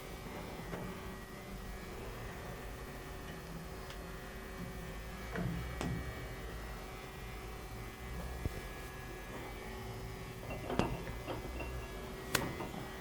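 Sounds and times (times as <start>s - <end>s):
lathe mains hum: 0.0s - 13.0s.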